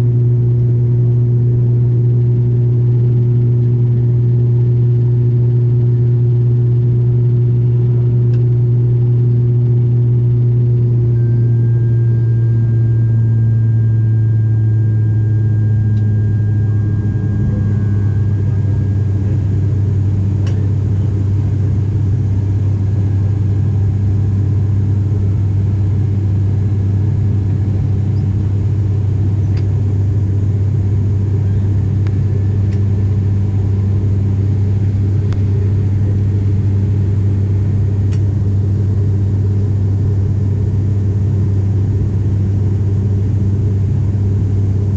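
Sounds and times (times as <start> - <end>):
airliner engines droning in cabin: 0.0 - 44.9.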